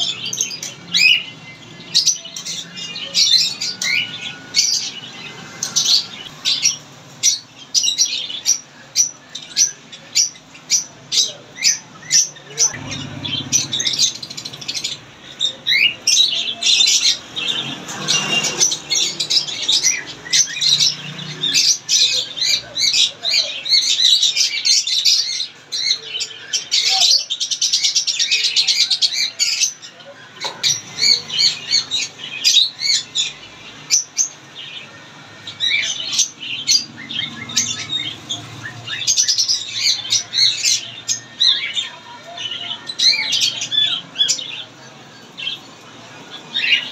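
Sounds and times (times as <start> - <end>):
parrots chirping and squawking: 0.0 - 46.9.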